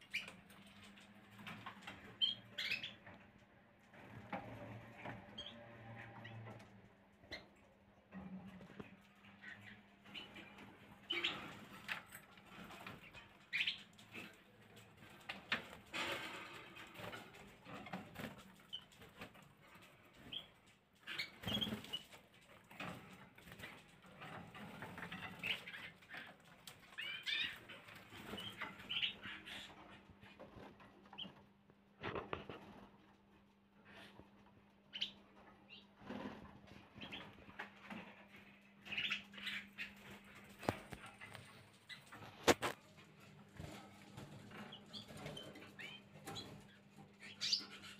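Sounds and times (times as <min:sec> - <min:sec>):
canaries chirping: 0:00.0 - 0:31.4, 0:34.8 - 0:47.9.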